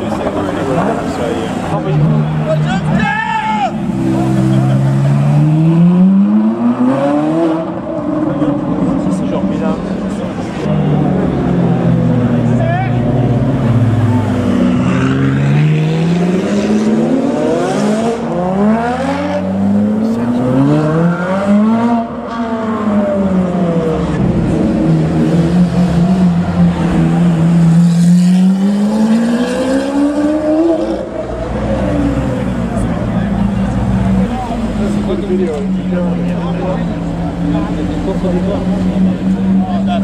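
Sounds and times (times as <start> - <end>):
car engines revving hard: 0.0 - 40.0
engine upshifts: 3.7 - 40.0.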